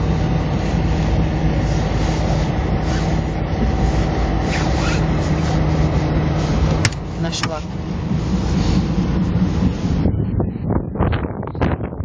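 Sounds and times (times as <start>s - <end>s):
car cabin rumble and hiss: 0.0s - 11.8s
low steady hum: 0.0s - 12.0s.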